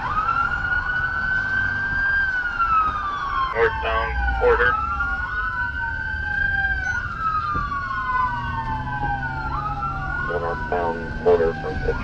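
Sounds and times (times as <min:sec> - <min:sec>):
low vehicle rumble: 0:00.0 - 0:12.0
police siren wailing: 0:00.0 - 0:12.0.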